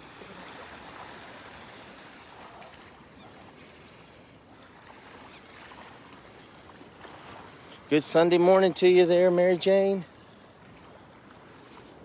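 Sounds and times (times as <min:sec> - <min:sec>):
gentle surf washing ashore: 0:00.0 - 0:12.0.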